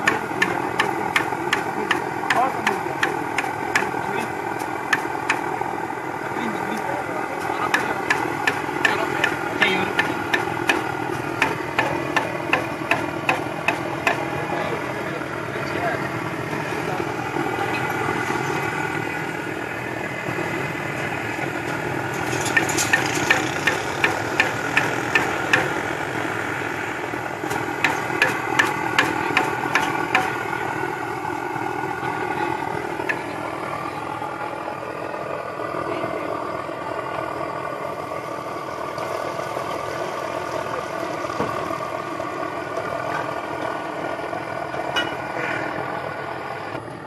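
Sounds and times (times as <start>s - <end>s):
steady engine-like hum: 0.0s - 47.0s.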